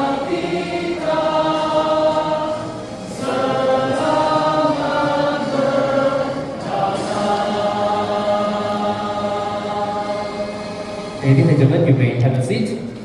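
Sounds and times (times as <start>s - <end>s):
group singing in unison: 0.0s - 11.3s.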